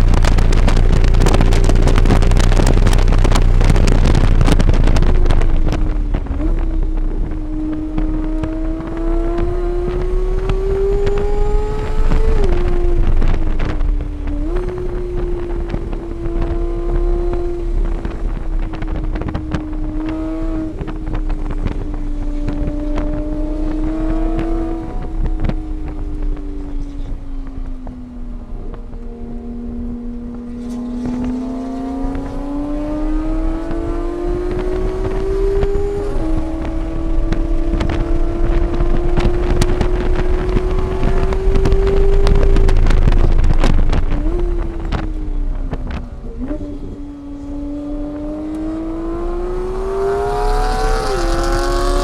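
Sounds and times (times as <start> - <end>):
race car engine revving: 0.0 - 52.0
wind on microphone: 0.0 - 52.0.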